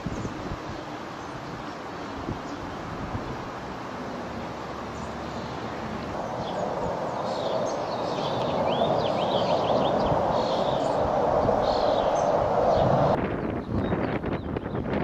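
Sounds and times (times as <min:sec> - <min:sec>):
small birds chirping: 0:00.0 - 0:03.6, 0:04.2 - 0:15.0
jet rushing noise: 0:00.0 - 0:13.6.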